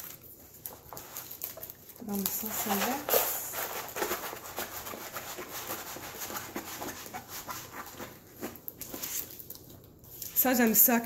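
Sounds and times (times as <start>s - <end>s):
plastic rustling and crinkling: 0.0s - 11.0s.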